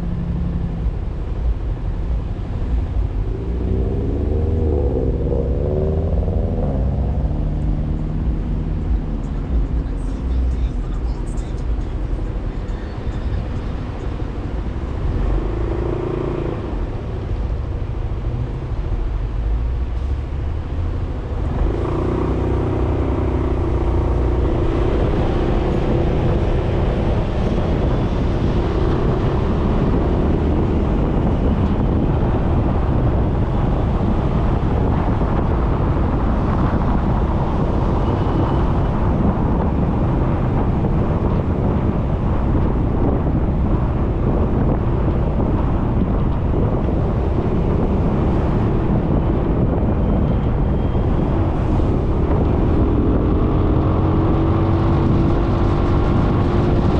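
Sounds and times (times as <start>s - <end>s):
road and air rush: 0.0s - 56.9s.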